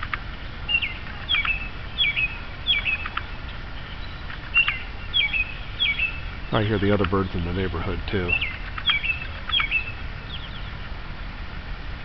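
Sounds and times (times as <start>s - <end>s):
bird calling: 0.0s - 10.9s.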